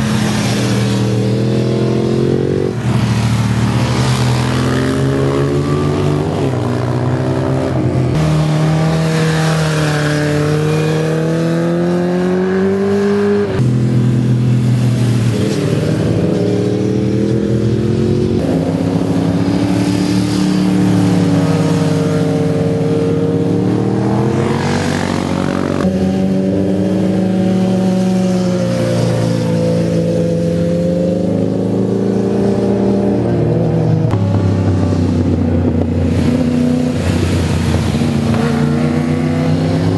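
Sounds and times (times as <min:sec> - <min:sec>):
sport motorcycles passing: 0:00.0 - 0:39.9.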